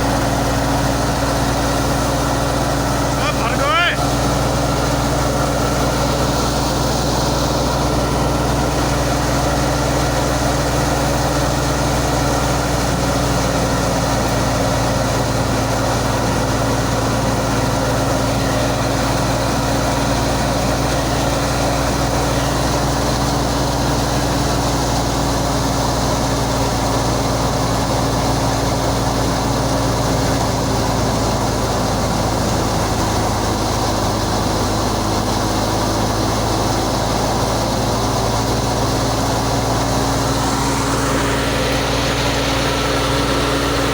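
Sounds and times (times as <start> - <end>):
heavy farm machine engine running: 0.0 - 43.9.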